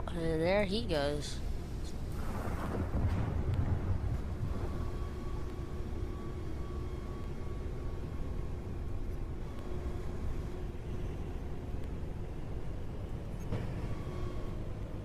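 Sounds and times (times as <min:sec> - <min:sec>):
faint constant hum: 0:00.0 - 0:15.0
vehicle running low rumble: 0:00.0 - 0:15.0.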